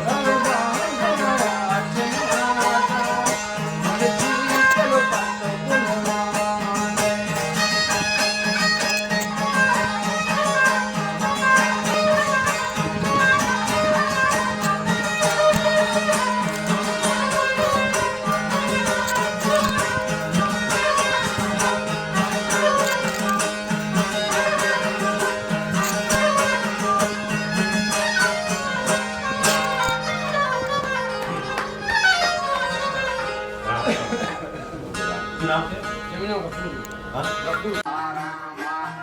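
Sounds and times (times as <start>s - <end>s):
folk music with strings: 0.0s - 39.0s.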